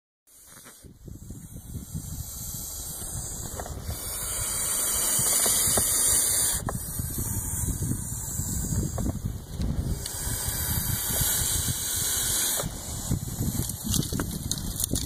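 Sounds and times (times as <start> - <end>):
snake hissing: 0.3 - 14.8
low wind rumble on microphone: 0.6 - 15.0.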